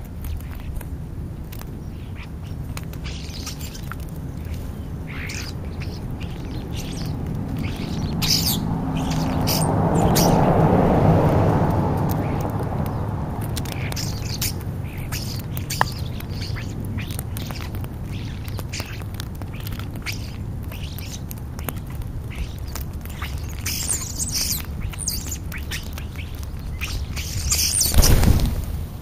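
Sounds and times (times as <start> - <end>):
steady low rumble: 0.0 - 29.0
starlings squawking and chirping: 1.6 - 28.6.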